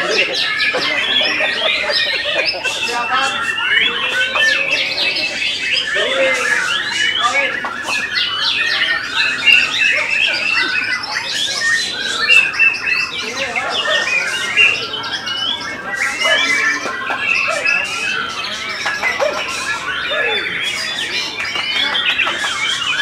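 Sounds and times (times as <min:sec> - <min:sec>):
birds singing in chorus: 0:00.0 - 0:23.0.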